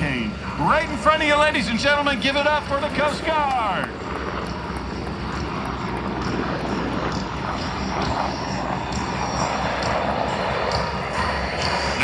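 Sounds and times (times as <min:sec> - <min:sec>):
helicopter rotor and engines: 0:00.0 - 0:12.0.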